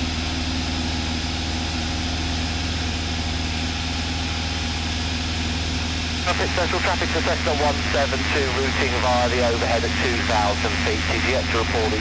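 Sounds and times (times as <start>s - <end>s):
aircraft engine droning in cockpit: 0.0s - 12.0s.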